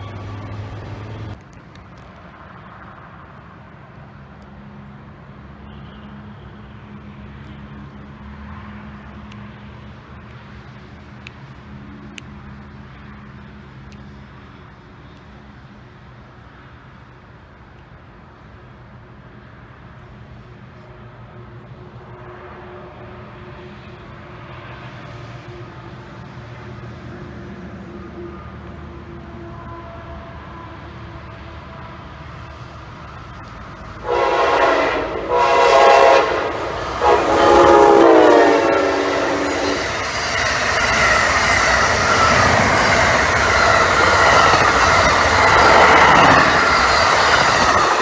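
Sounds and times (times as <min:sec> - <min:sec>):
distant electric train rumbling: 0:00.0 - 0:48.0
electric train arriving: 0:00.0 - 0:48.0.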